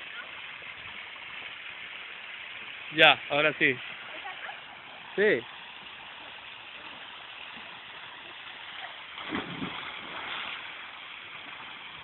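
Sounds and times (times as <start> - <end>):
waterfall splashing into a pool: 0.0 - 12.0.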